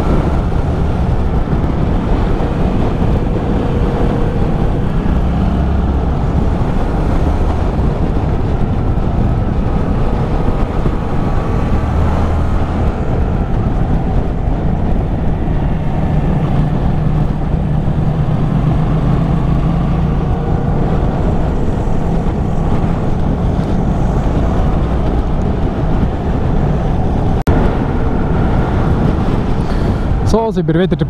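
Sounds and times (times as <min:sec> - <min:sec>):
motorcycle engine running: 0:00.0 - 0:30.2.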